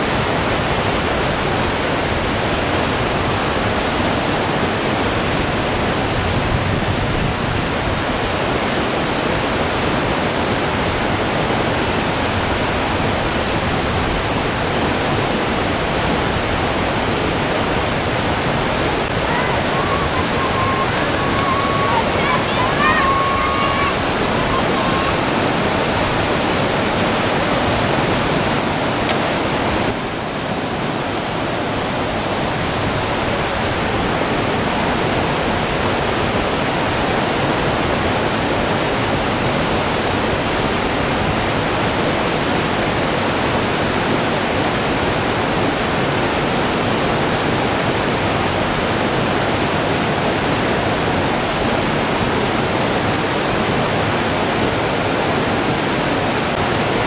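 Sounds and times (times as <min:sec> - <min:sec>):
whitewater rushing: 0:00.0 - 0:57.0.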